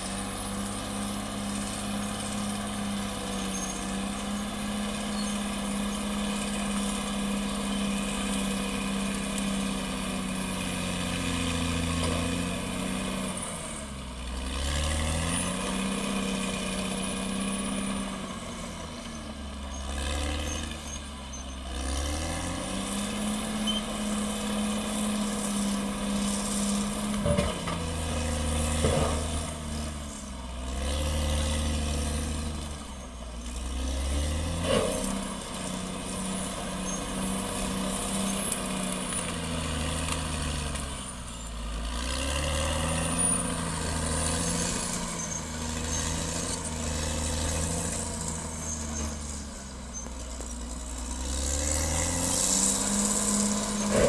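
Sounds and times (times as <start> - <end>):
bulldozer diesel engine under load: 0.0 - 54.0.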